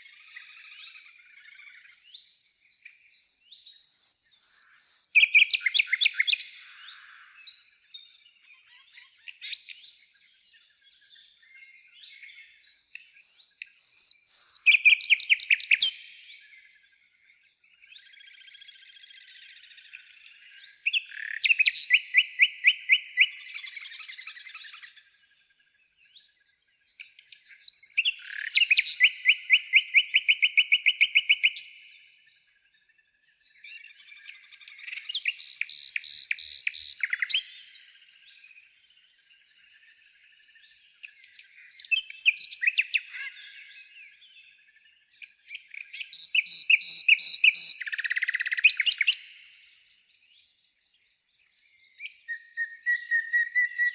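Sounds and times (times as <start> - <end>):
songbird singing trills: 0.0 - 53.9.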